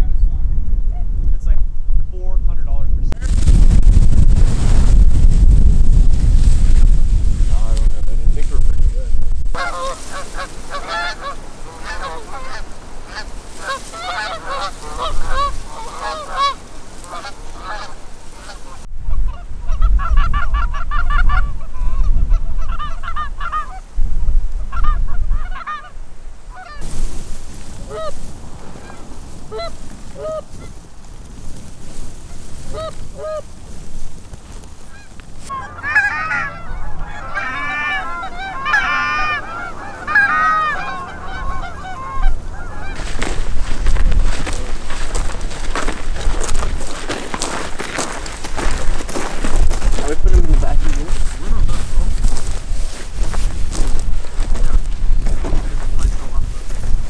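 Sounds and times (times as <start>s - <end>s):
wind rumbling on microphone: 0.0s - 57.0s
geese honking: 9.5s - 23.9s, 24.6s - 57.0s.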